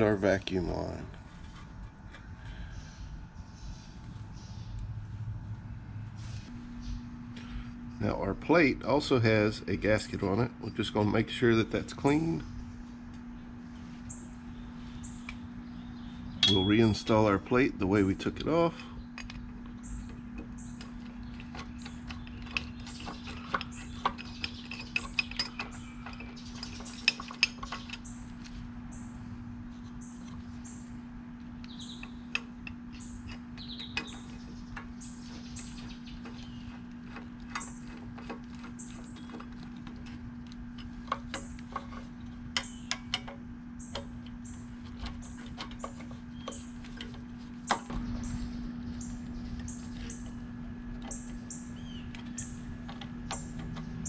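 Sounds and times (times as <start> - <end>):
steady low hum: 0.0 - 54.0
birds chirping: 2.1 - 5.1, 6.5 - 54.0.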